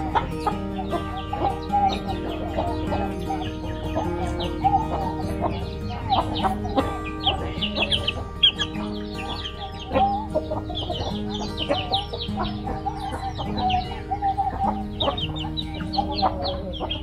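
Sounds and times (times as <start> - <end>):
background music: 0.0 - 17.0
chickens clucking: 0.0 - 17.0.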